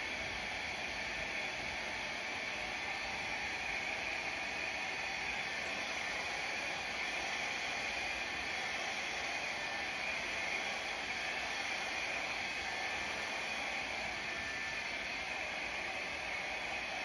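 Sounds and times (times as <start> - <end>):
blow dryer running: 0.0 - 17.0.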